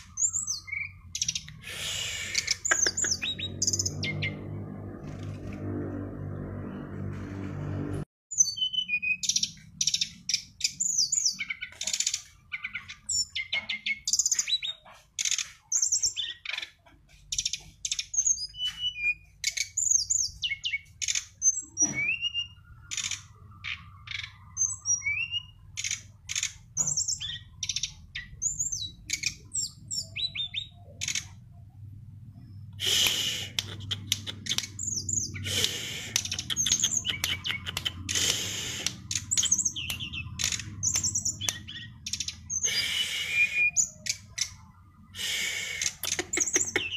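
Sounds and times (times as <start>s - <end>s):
songbird singing: 0.0s - 5.7s, 8.3s - 46.9s.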